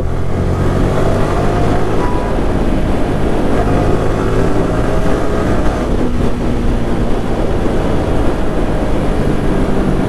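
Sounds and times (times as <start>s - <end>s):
motorcycle engine running: 0.0s - 10.0s
wind rushing over microphone: 0.0s - 10.0s.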